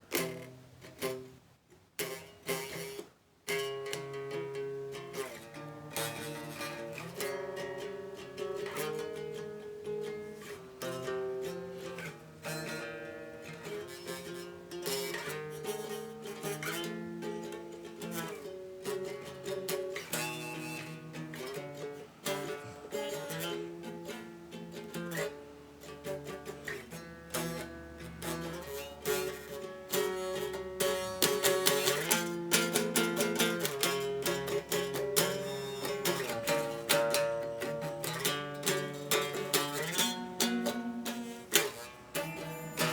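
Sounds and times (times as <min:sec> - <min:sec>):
guitar strumming chords: 0:00.1 - 0:01.4, 0:02.0 - 0:42.9.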